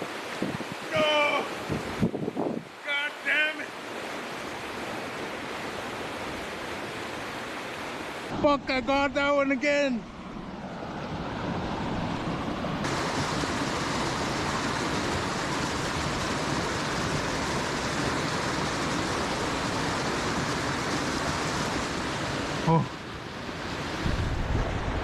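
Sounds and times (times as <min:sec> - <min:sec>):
flowing creek water: 0:00.0 - 0:25.0.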